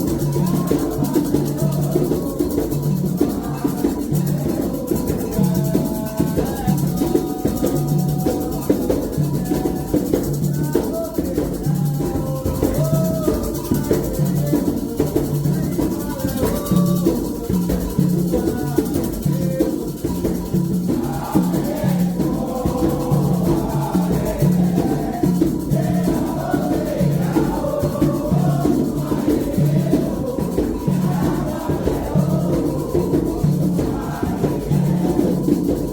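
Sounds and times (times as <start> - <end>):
hand drums playing rhythm: 0.0 - 35.9
shaken rattle: 0.0 - 35.9
voices singing a chant: 0.0 - 35.9.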